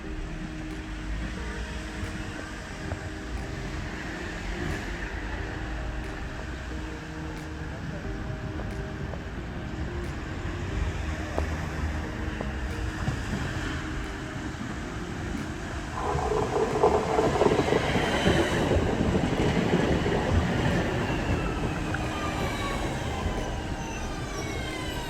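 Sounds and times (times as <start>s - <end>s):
tram running on rails: 0.0s - 25.0s.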